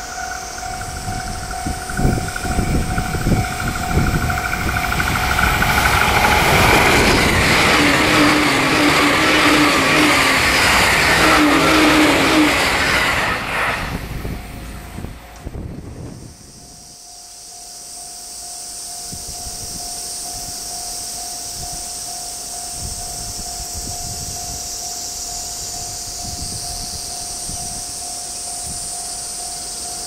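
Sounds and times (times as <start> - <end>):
train passing at speed: 0.0 - 17.0, 19.0 - 30.0
pulsing high tone: 0.0 - 30.0.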